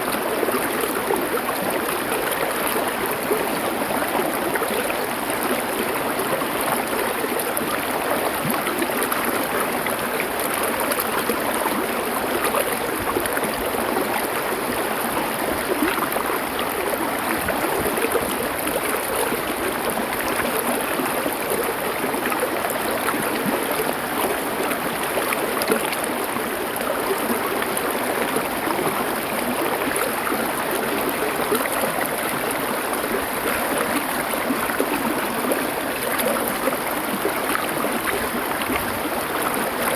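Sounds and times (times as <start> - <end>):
stream water flowing over stones: 0.0 - 39.9.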